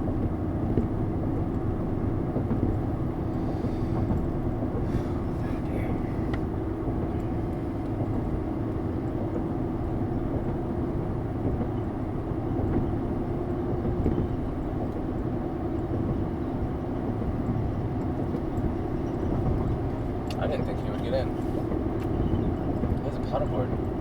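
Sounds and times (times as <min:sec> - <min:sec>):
car road and tyre noise: 0:00.0 - 0:24.0.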